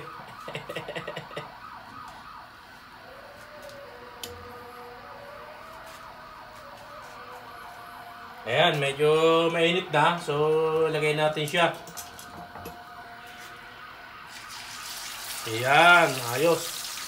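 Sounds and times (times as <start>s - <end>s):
distant emergency siren: 0.0s - 17.0s.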